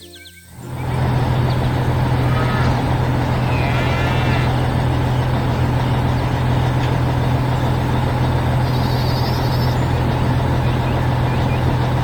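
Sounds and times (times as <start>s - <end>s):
harvester engine droning: 0.1s - 12.0s.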